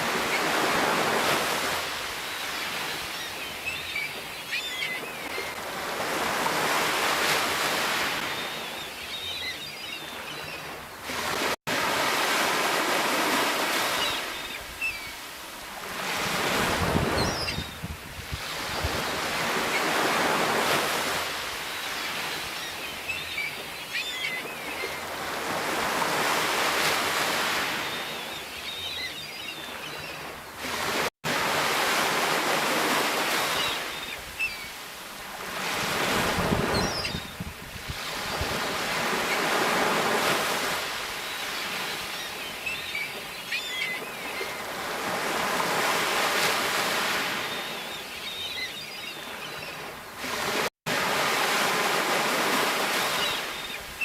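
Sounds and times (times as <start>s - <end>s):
sea waves breaking: 0.0s - 9.3s, 9.9s - 54.0s.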